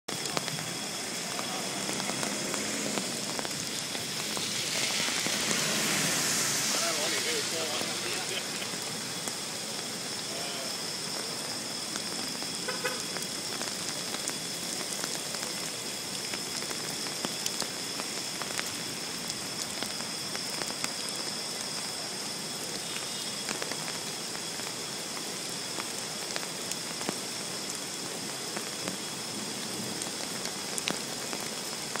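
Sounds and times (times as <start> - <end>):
rain on hard surfaces: 0.1 - 32.0.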